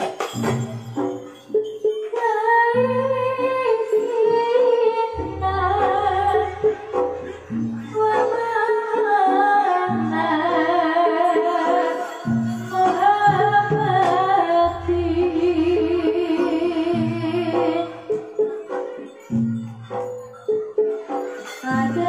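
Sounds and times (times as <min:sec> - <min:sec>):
gamelan struck notes: 0:00.0 - 0:22.0
woman singing wavering melody: 0:00.6 - 0:20.6, 0:21.2 - 0:22.0.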